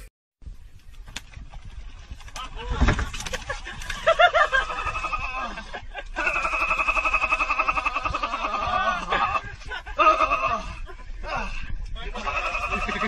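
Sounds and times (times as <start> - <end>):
man laughing: 2.4 - 13.0.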